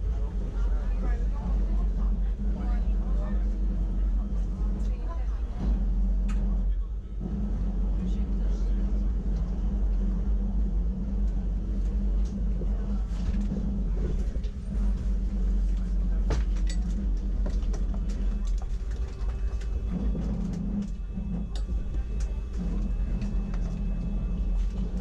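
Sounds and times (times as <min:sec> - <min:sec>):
train rumble and hum: 0:00.0 - 0:25.0.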